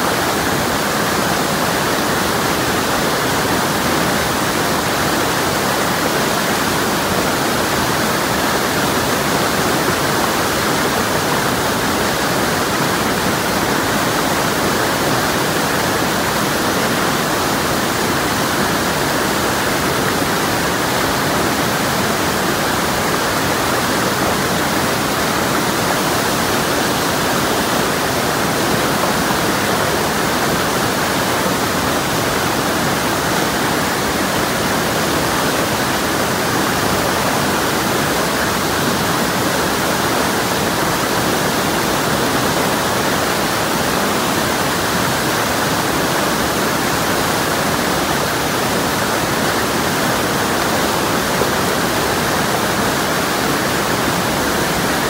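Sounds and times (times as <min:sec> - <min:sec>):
river rushing over rapids: 0:00.0 - 0:55.0.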